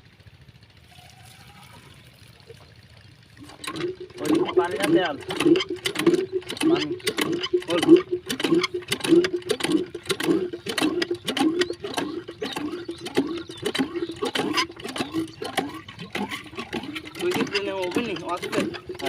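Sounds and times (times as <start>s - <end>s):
diesel engine knocking: 3.0s - 19.0s.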